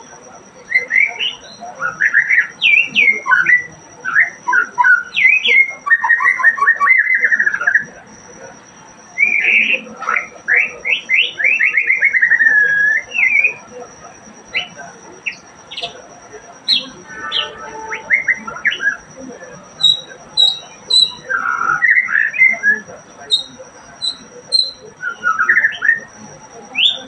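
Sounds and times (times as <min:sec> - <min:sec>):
songbird singing: 0:00.0 - 0:27.0.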